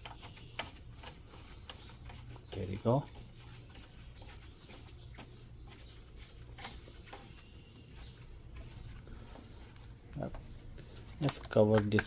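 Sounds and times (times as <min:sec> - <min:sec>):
light scraping by hand: 0:00.0 - 0:11.3.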